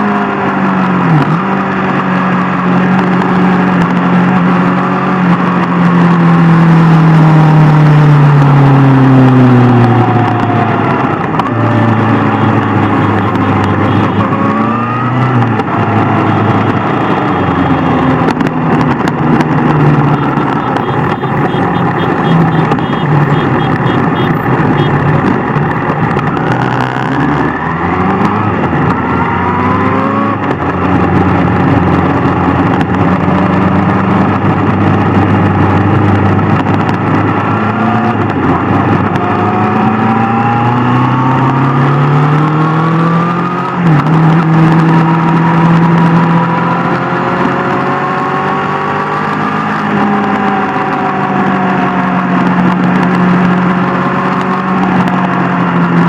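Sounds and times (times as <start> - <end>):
motorcycle engine accelerating: 0.0 - 56.0
wind and road noise: 0.0 - 56.0.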